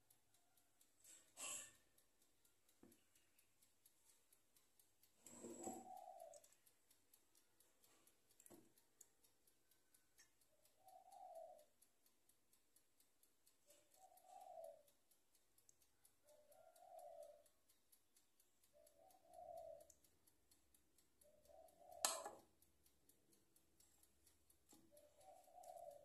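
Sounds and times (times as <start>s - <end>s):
faint fast ticking: 0.0s - 26.0s.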